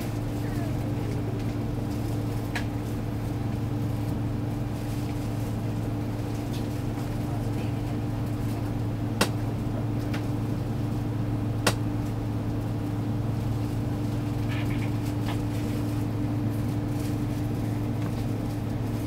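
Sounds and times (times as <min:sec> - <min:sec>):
aircraft cabin hum: 0:00.0 - 0:19.0.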